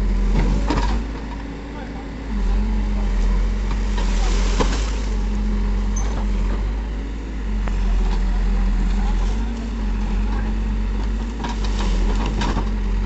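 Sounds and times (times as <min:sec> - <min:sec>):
diesel engine working under load: 0:00.0 - 0:13.0.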